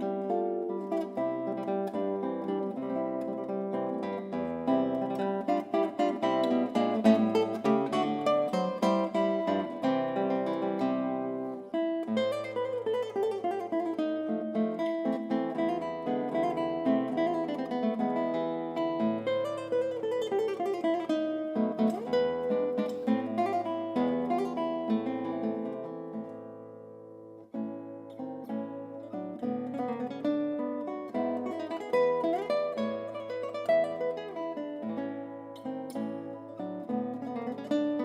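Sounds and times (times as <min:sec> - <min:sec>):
acoustic guitar music: 0:00.0 - 0:38.0.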